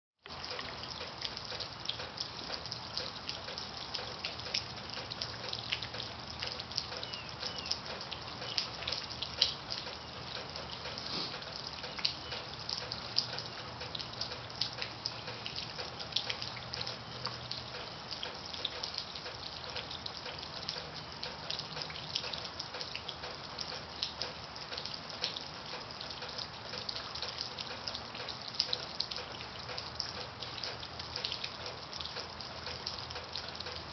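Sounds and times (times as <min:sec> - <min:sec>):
water dripping and trickling: 0:00.2 - 0:33.9.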